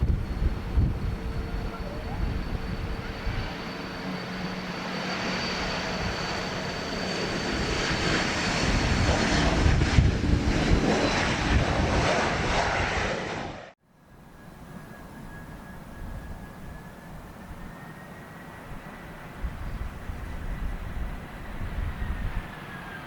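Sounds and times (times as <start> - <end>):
airliner engines rumbling: 0.0 - 23.0.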